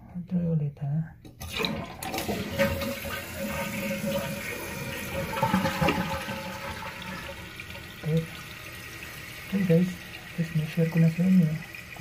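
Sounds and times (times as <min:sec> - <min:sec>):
toilet flushing: 0:01.4 - 0:12.0.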